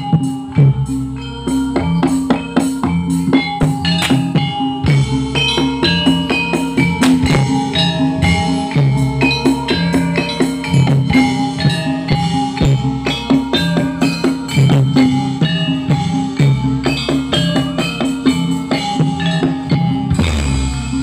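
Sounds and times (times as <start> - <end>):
drums: 0.0 - 21.0
ringing tuned percussion: 0.0 - 21.0.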